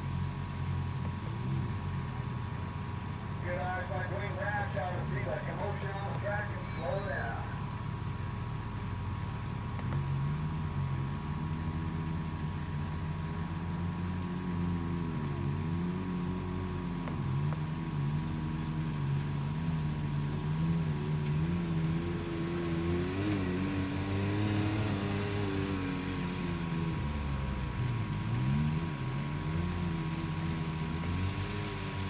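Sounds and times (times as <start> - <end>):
vehicle engine revving: 0.0 - 32.0.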